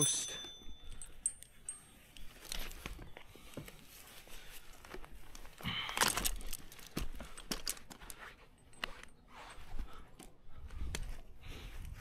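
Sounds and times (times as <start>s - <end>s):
climbing gear clicking and scraping: 0.0s - 11.2s.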